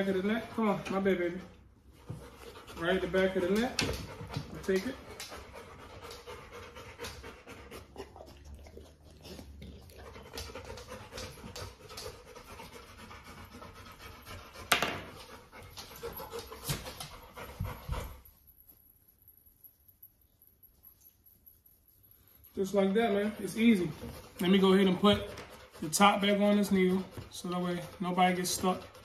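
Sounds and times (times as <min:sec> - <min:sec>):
puppy panting: 0:00.0 - 0:18.5, 0:21.9 - 0:29.0.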